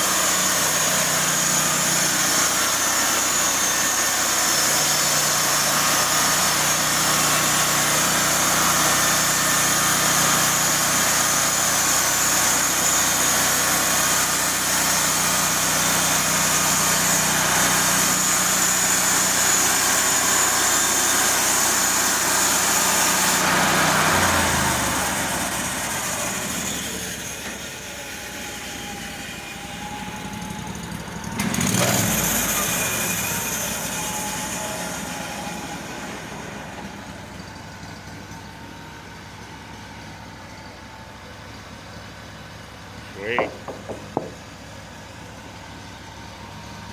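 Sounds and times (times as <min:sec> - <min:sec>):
sawmill gasoline engine running: 0:00.0 - 0:46.9.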